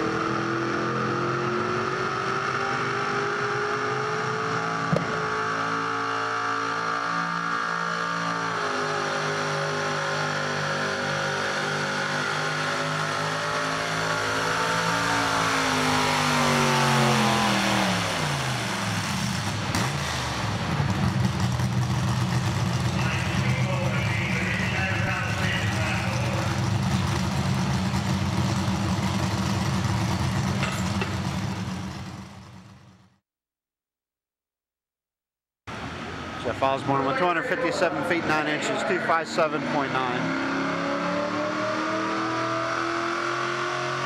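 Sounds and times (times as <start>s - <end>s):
truck engine at high revs: 0.0s - 33.1s, 35.7s - 44.0s.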